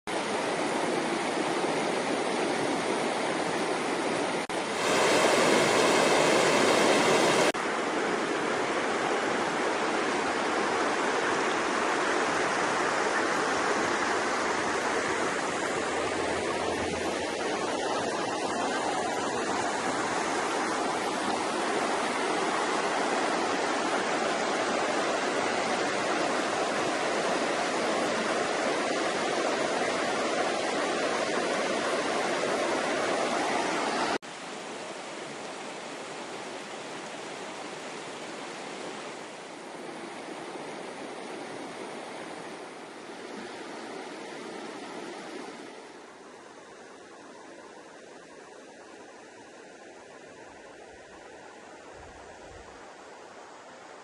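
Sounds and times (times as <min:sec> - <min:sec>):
falling water rushing: 0:00.1 - 0:54.0.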